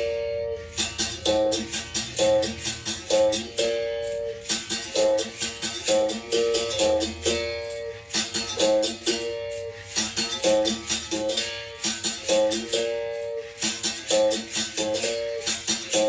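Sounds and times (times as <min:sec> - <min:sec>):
berimbau rhythm: 0:00.0 - 0:16.0
rattle: 0:00.0 - 0:16.0.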